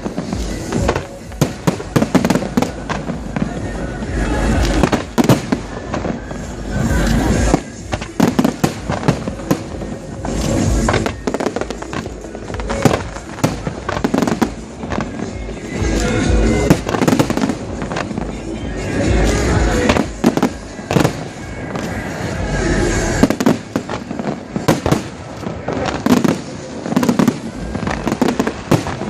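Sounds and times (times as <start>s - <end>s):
fireworks bangs and crackles: 0.0s - 29.0s
fireworks deep booms: 0.0s - 29.0s.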